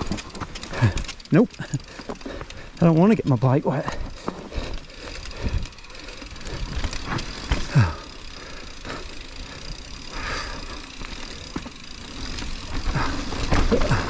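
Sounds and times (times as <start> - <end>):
bike rattles and knocks: 0.0 - 14.0
bike tyre noise on dirt: 0.0 - 14.0.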